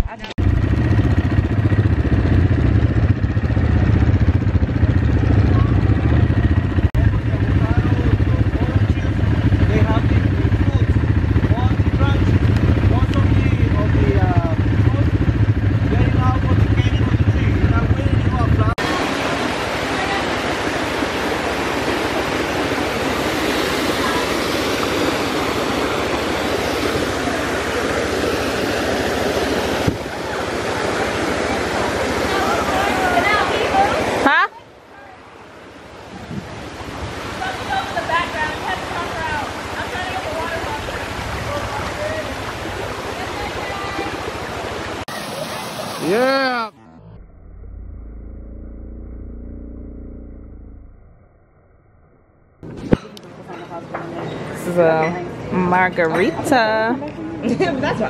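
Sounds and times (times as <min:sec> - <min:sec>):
atv engine running: 0:00.0 - 0:34.6, 0:35.3 - 0:51.2.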